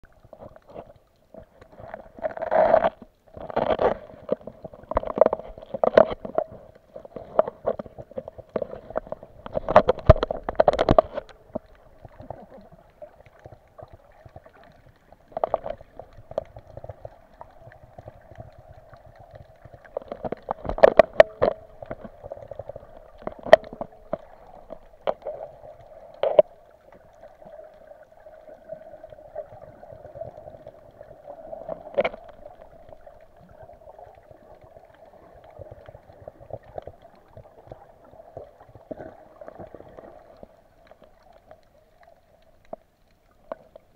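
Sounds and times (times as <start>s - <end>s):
water sloshing and bubbling: 0.0s - 43.9s.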